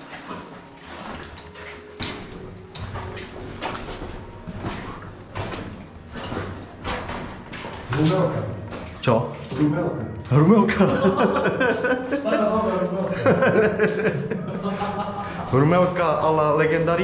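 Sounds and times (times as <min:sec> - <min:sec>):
footsteps scraping and scuffing: 0:00.0 - 0:10.7, 0:11.6 - 0:17.0.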